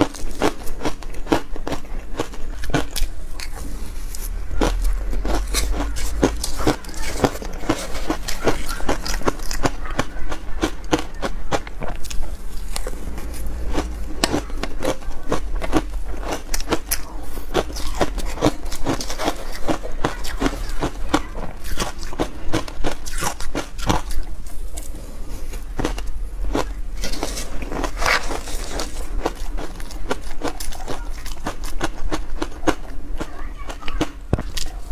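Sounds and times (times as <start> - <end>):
ice crunching between teeth: 0.0 - 34.9
low steady hum: 0.0 - 34.9.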